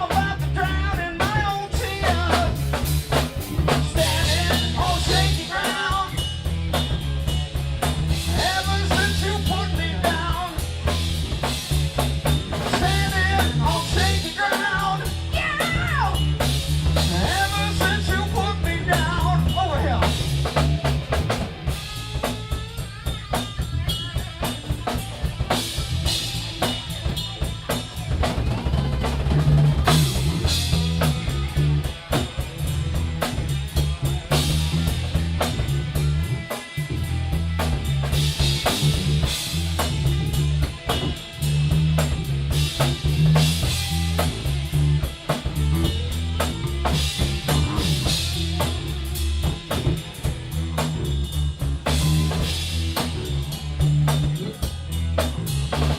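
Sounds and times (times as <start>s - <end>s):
bass guitar line: 0.0s - 55.9s
drum kit playing: 0.0s - 55.9s.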